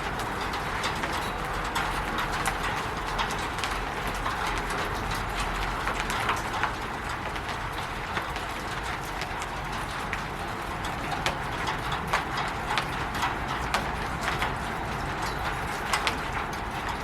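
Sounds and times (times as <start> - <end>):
raindrops tapping on roof: 0.0 - 17.0.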